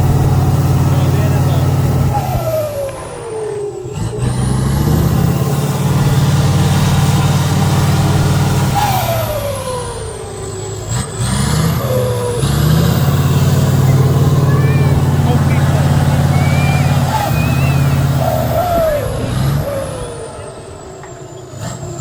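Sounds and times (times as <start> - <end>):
diesel engine revving: 0.0 - 22.0
falling whine: 0.0 - 22.0.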